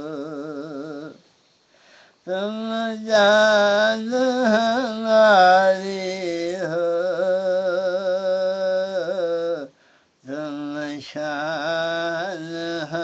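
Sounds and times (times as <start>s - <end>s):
man singing devotional song: 0.0s - 1.3s, 1.9s - 13.0s.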